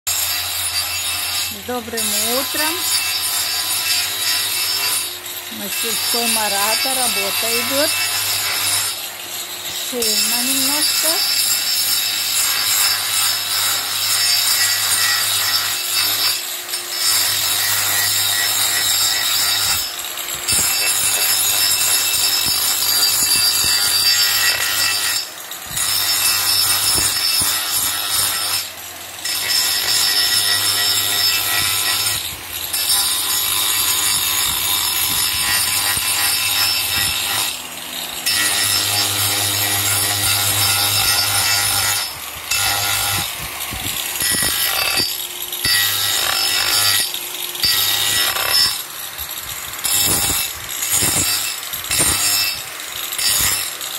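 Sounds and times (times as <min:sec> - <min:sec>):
angle grinder sanding wood: 0:00.1 - 0:53.9.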